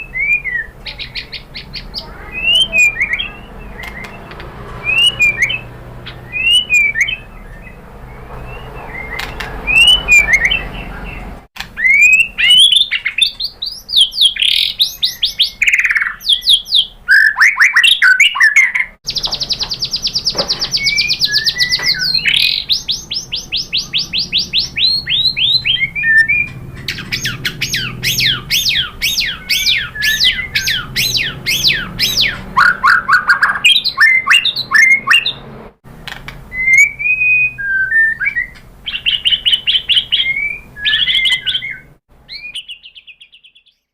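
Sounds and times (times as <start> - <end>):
bird singing whistles and warbles: 0.0 - 35.4, 36.5 - 43.9.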